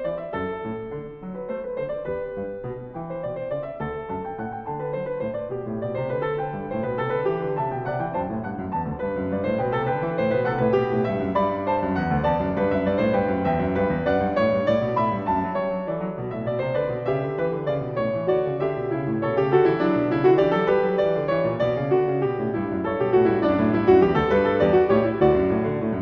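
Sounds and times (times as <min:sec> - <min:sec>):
flowing piano piece: 0:00.0 - 0:26.0.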